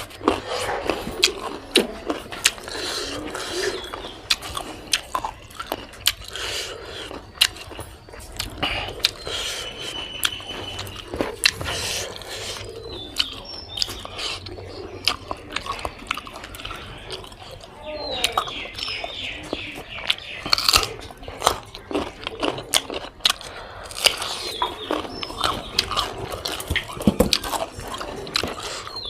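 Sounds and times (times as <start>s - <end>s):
mouth clicks and smacks: 0.0s - 29.0s
person chewing food: 0.0s - 29.0s.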